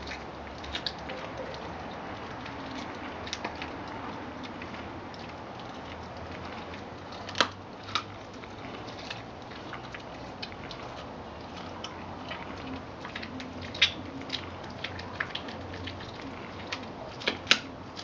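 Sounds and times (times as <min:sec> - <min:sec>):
dog chewing clicks: 0:00.0 - 0:18.0
dog crunching bones: 0:00.0 - 0:18.0.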